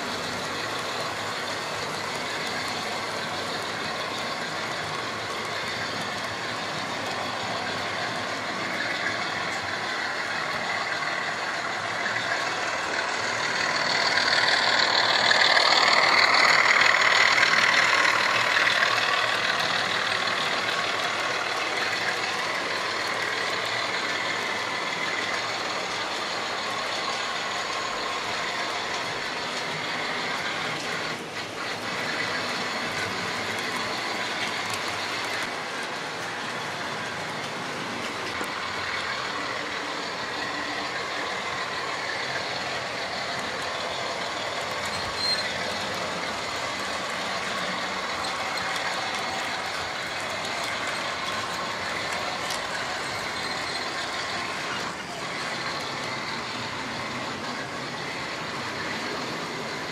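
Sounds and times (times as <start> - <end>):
model train motors whirring: 0.0 - 59.9
wheels rolling over track: 0.0 - 59.9.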